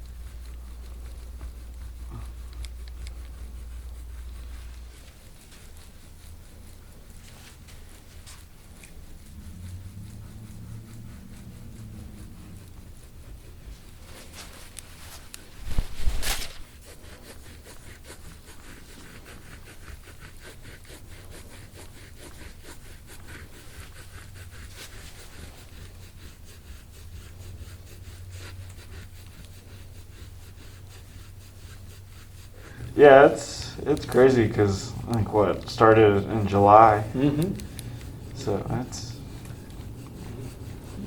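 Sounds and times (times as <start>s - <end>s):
hands rubbing and scraping skin: 0.0s - 41.0s.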